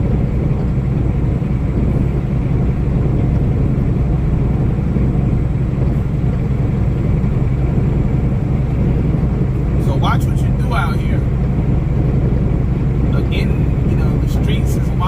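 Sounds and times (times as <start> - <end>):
engine and road rumble in cab: 0.0 - 15.0.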